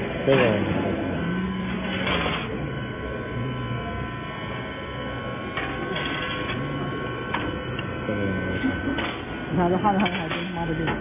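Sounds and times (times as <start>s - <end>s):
welding machine hum: 0.0s - 11.0s.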